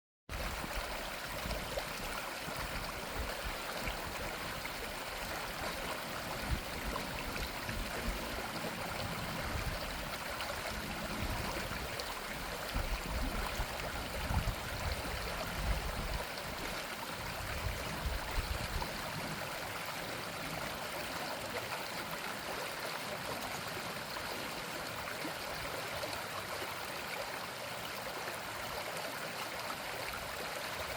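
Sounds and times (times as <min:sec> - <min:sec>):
brook flowing and splashing: 0:00.3 - 0:30.9.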